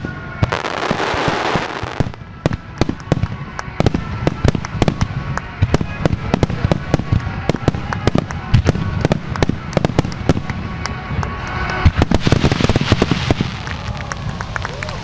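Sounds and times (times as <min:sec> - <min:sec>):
fireworks bursting and launching: 0:00.0 - 0:15.0.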